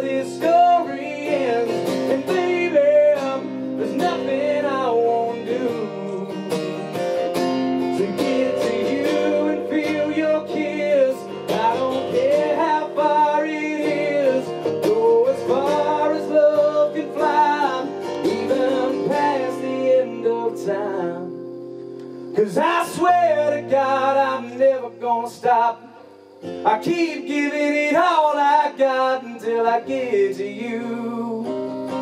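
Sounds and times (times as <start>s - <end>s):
man singing: 0.0s - 6.9s, 7.8s - 21.5s, 22.3s - 32.0s
strummed acoustic guitar: 0.0s - 32.0s.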